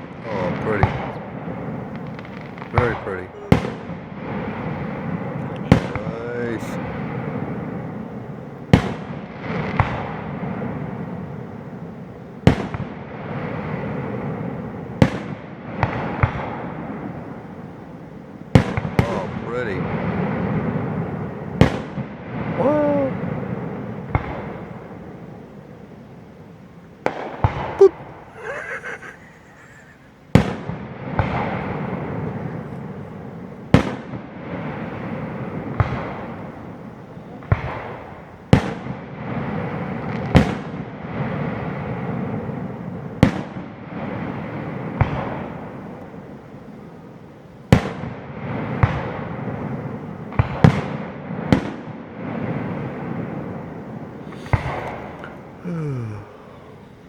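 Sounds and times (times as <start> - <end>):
fireworks bursting with sharp bangs: 0.0 - 47.1, 47.7 - 55.6.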